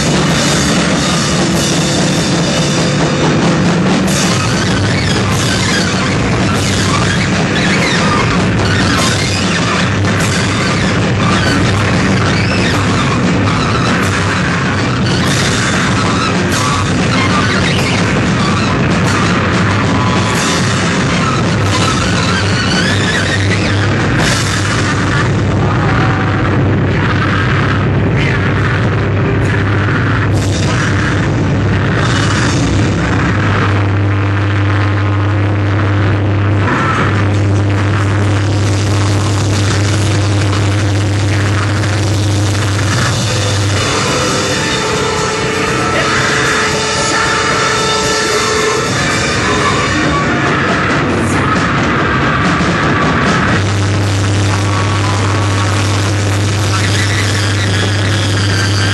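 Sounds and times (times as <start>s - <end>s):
distorted noise music: 0.0s - 58.9s
live noise rock band playing: 0.0s - 58.9s
steady low drone: 0.0s - 58.9s.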